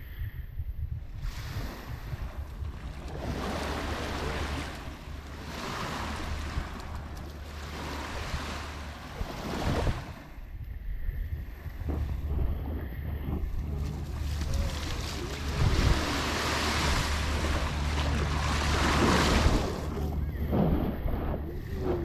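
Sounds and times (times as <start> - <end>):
wind rumble on microphone: 0.0 - 22.0
sea waves washing ashore: 1.1 - 10.6, 11.2 - 22.0.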